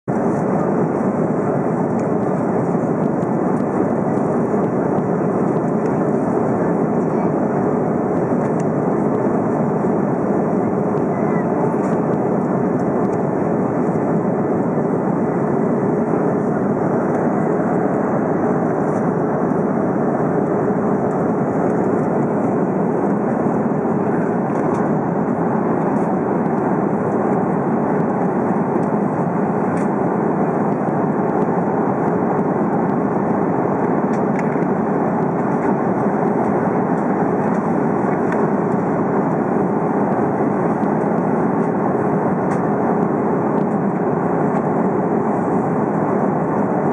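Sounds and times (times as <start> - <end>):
airliner cabin engine and airflow noise: 0.0 - 46.9
constant hum: 0.0 - 46.9.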